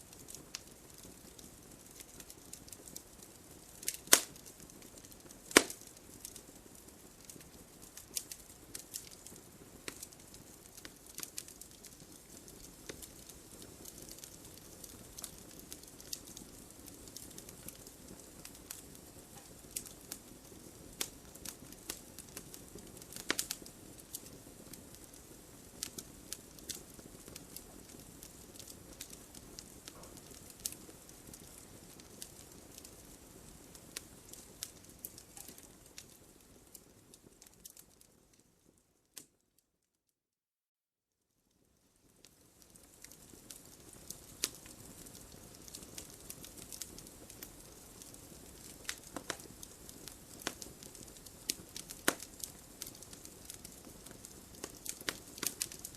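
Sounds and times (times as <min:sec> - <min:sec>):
wood fire crackling and popping: 0:00.0 - 0:39.4, 0:41.6 - 0:55.9.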